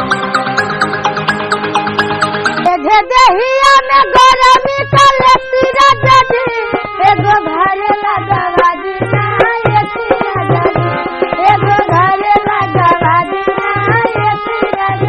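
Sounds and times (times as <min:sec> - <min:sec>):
indian-style melody with tabla: 0:00.0 - 0:15.0.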